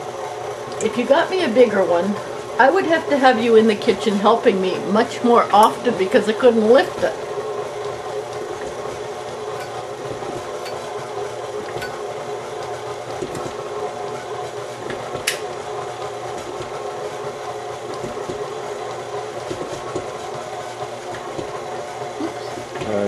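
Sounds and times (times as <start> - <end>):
stand mixer running: 0.0 - 23.0.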